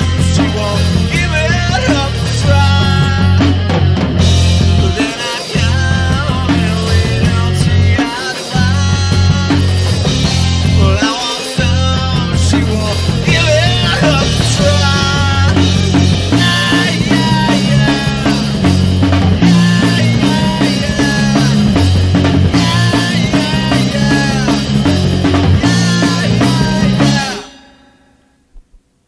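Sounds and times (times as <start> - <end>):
rock song: 0.0 - 28.2.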